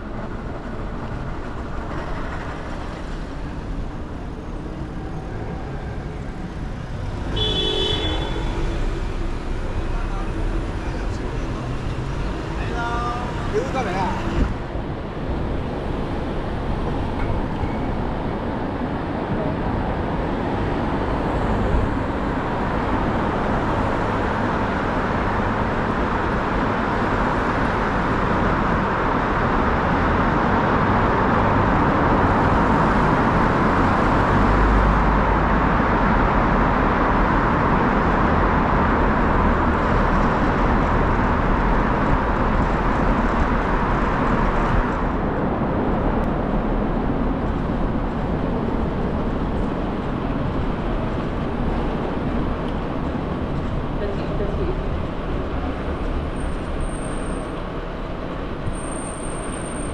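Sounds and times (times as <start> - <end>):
street traffic: 0.0 - 59.9.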